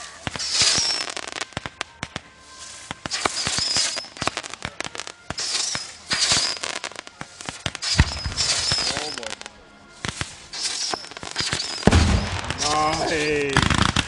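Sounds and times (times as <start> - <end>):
fireworks hissing: 0.0 - 14.0
fireworks popping and crackling: 0.0 - 14.0.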